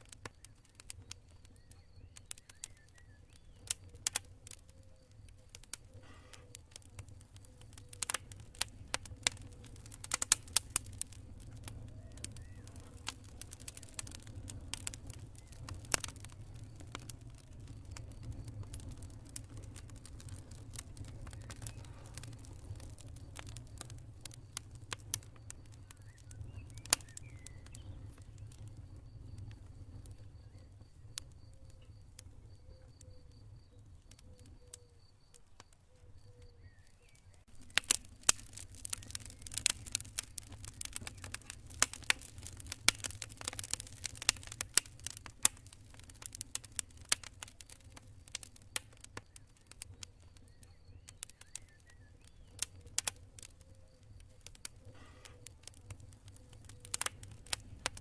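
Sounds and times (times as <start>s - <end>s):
campfire crackling: 0.0s - 58.0s
cricket chirping: 0.1s - 58.0s.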